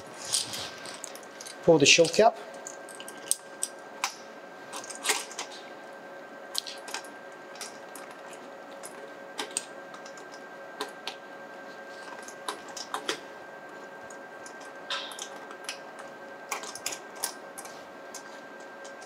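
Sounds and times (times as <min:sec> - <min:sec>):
faint two-tone hum: 0:00.0 - 0:19.0.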